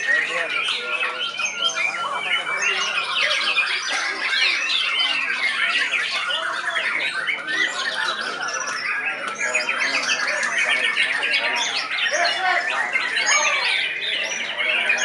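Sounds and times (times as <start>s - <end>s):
chorus of songbirds: 0.0s - 15.0s.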